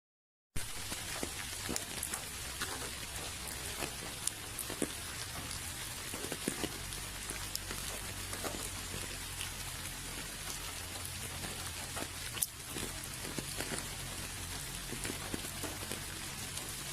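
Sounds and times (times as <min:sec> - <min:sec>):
rain hiss: 0:00.6 - 0:16.9
raindrops ticking on surface: 0:00.6 - 0:16.9.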